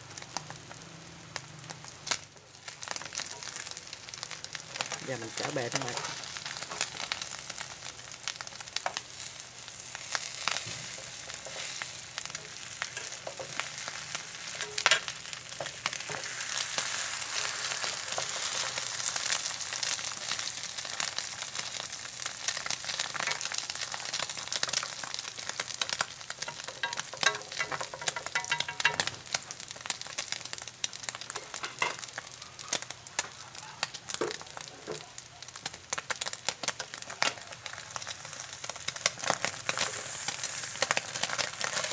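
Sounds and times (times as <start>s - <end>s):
oil crackling and popping: 0.0s - 41.9s
omelette sizzling in hot oil: 0.0s - 41.9s.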